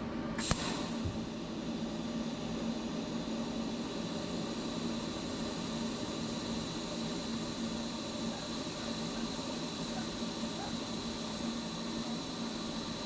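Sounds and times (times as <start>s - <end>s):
welding arc buzzing hiss: 0.0s - 13.0s.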